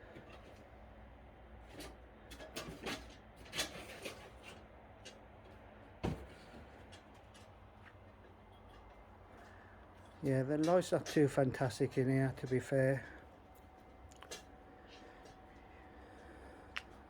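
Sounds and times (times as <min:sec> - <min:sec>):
faint low room hum: 0:00.0 - 0:17.0.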